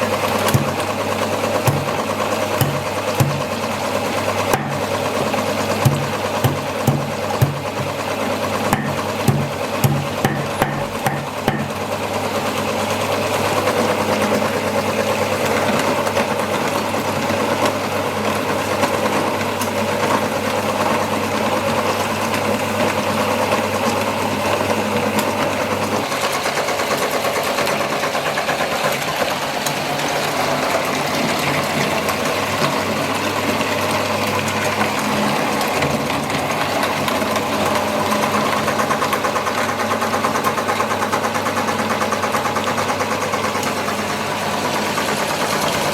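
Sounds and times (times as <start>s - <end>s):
meat grinder whirring: 0.0s - 45.9s.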